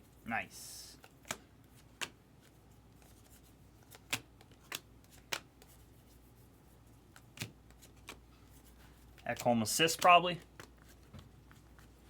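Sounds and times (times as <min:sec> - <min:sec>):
trading cards being flipped through: 0:01.0 - 0:06.2, 0:07.1 - 0:12.0.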